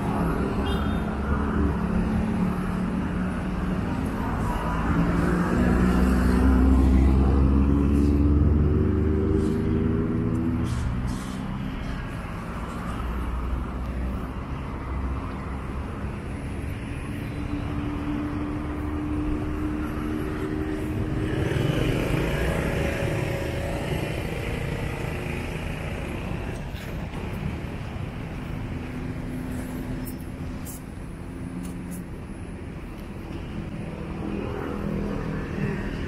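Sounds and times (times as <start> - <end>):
vehicles passing: 0.0 - 36.0.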